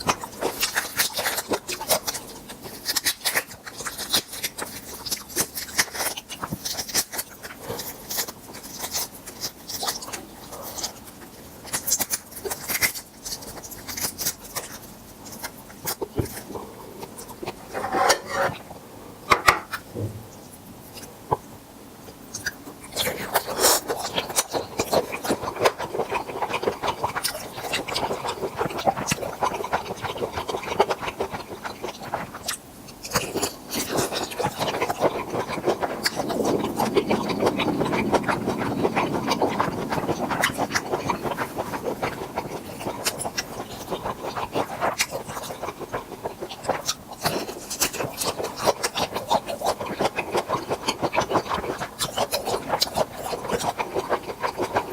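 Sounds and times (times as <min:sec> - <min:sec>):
person chewing wetly: 0:00.0 - 0:54.9.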